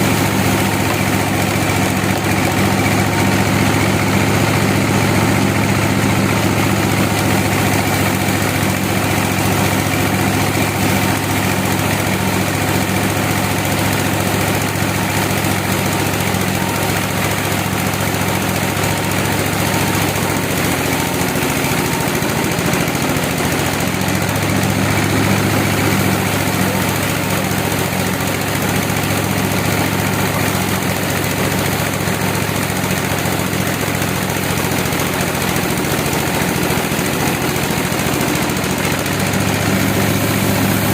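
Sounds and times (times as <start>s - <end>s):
sawmill machinery humming: 0.0s - 40.9s.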